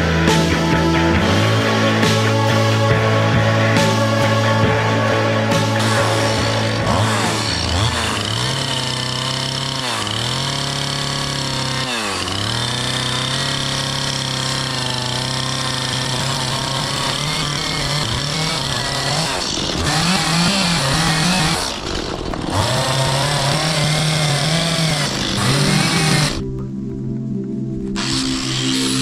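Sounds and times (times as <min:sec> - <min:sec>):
chainsaw cutting wood: 0:00.0 - 0:26.6, 0:28.0 - 0:29.0.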